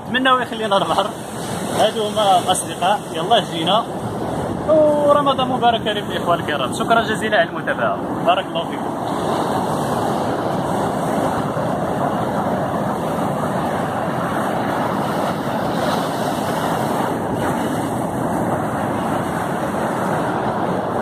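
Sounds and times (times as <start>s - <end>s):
waves breaking on rocky shore: 0.0s - 21.0s.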